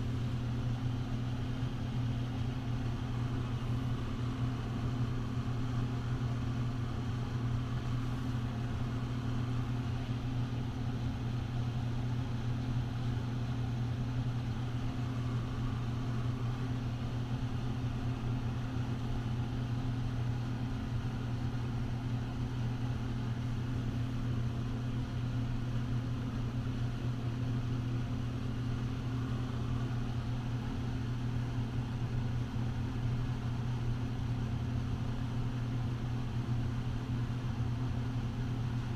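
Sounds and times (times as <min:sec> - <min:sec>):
low machine hum: 0:00.0 - 0:38.9.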